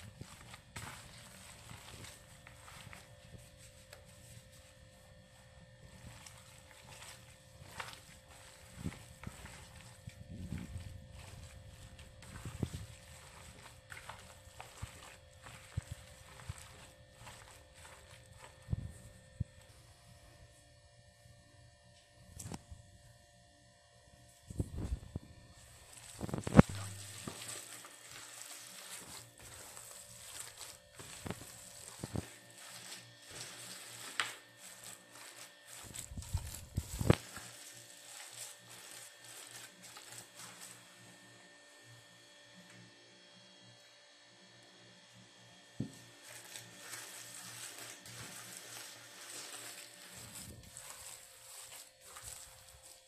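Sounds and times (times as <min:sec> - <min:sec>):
meat mixture squelching: 0:00.0 - 0:19.8, 0:24.6 - 0:41.4, 0:45.8 - 0:53.0
electrical hum: 0:00.0 - 0:53.0.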